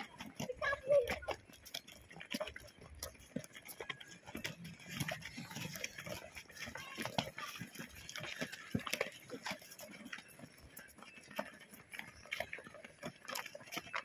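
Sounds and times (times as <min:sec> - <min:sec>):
footsteps jogging on dirt: 0:00.0 - 0:14.0.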